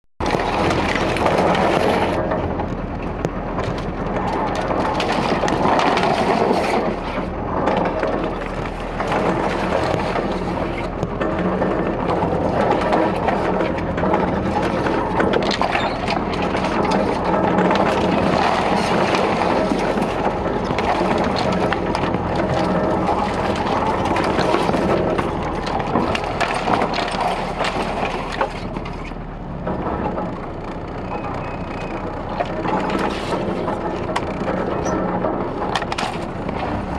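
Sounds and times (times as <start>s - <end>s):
vehicle engine drone: 0.2s - 36.9s
vehicle knocks and rattles: 0.2s - 36.9s.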